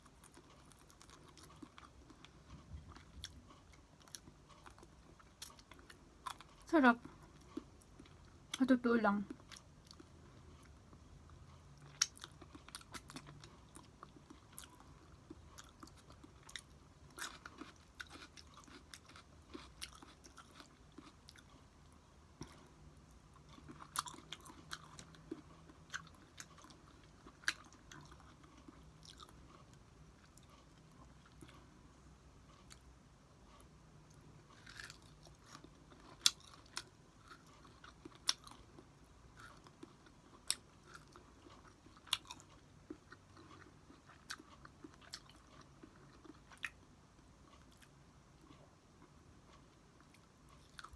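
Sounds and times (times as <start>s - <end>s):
chewing food: 0.0s - 50.9s.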